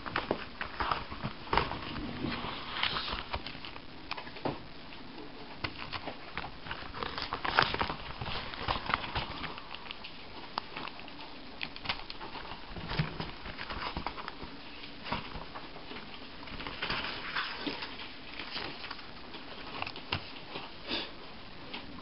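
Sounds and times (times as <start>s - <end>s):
paper rustling: 0.0s - 20.8s.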